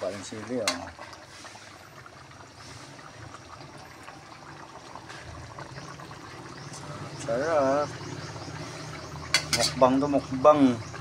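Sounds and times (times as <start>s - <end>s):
stew bubbling in a pot: 0.0s - 11.0s.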